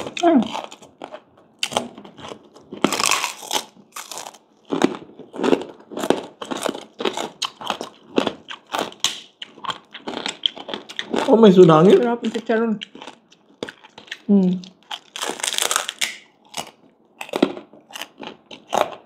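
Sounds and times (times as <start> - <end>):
crunchy chewing of pork rinds: 0.0 - 19.0.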